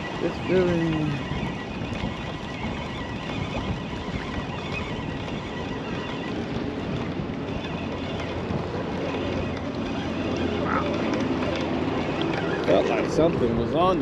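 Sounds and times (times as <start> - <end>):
fishing reel cranking: 0.0 - 14.0
wind over microphone: 0.0 - 14.0.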